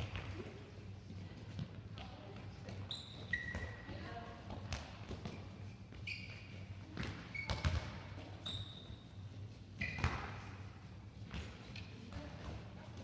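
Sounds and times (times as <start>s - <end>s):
balls bouncing on hall floor: 0.0s - 13.0s.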